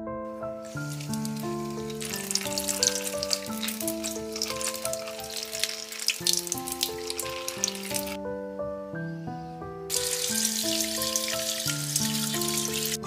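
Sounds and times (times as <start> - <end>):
background music: 0.0 - 13.0
tap water splashing on plastic bag: 0.6 - 8.2, 9.9 - 13.0.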